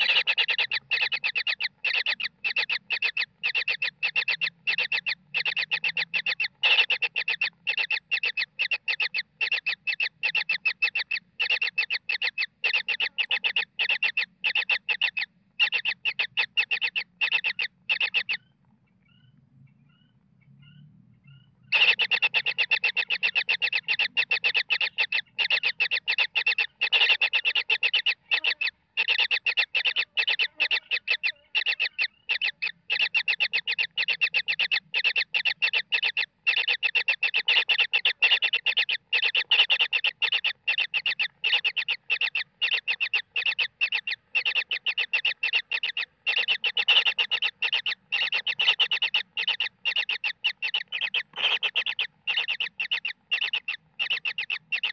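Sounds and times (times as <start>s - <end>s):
baby kingfisher shrill calling: 0.0s - 18.5s, 19.9s - 54.9s.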